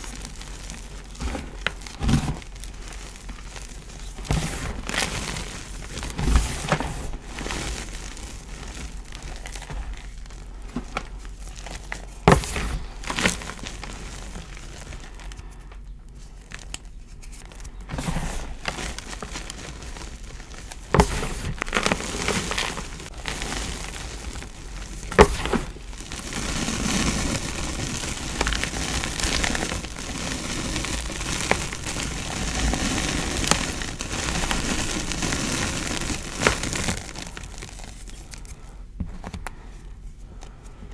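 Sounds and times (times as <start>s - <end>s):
chalk crunching under hands: 0.0s - 38.7s.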